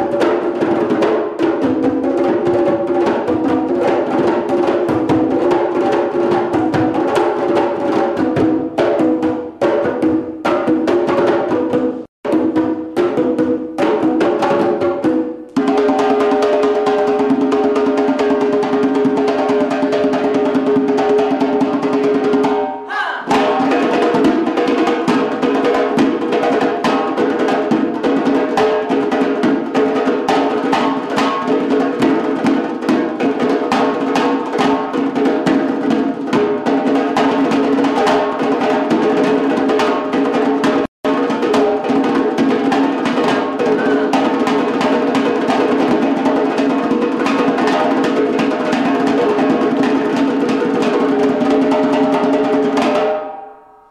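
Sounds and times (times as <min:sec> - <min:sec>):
fast ensemble drumming: 0:00.0 - 0:53.4.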